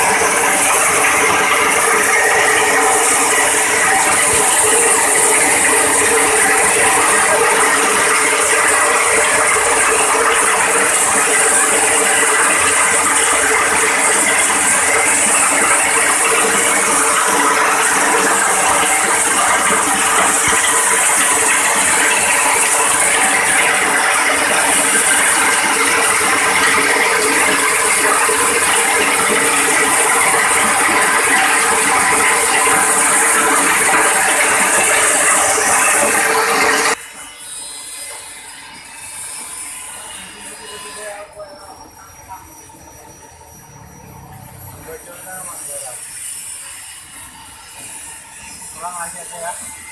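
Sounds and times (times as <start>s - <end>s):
hammer mill grinding grain: 0.0s - 49.9s.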